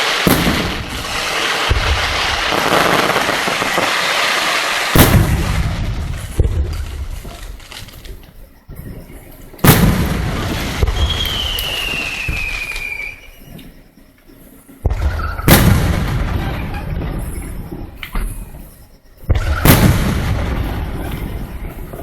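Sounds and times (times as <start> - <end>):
firework whistle: 0.0 - 6.5, 9.6 - 13.8, 14.9 - 22.0
fireworks booming: 0.0 - 13.7, 14.8 - 22.0.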